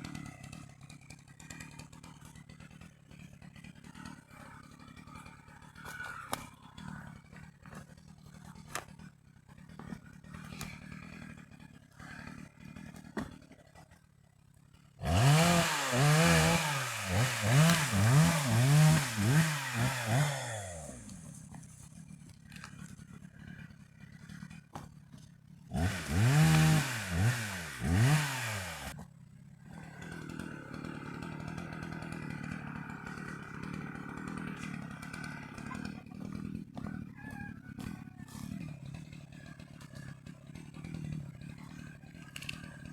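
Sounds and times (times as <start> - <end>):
chainsaw cutting wood: 5.8 - 14.1, 14.9 - 42.9.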